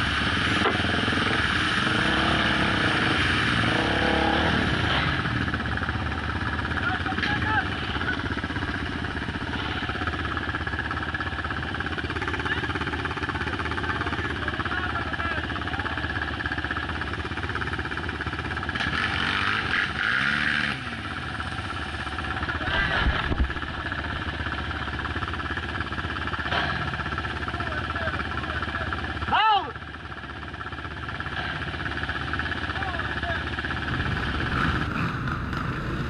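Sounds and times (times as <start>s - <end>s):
motorcycle engine revving: 0.0s - 36.0s
off-road motorcycle engines running: 0.0s - 36.0s.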